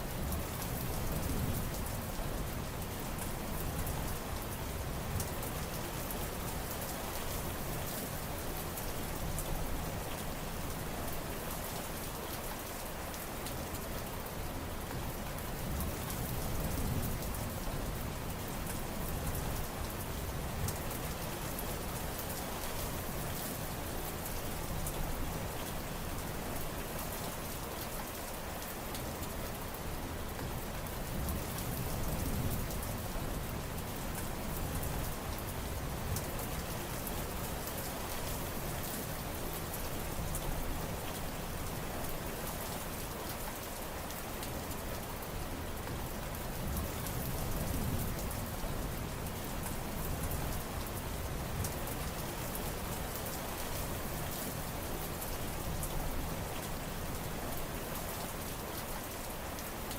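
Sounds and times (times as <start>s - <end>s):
heavy rain pattering on surfaces: 0.0s - 59.9s.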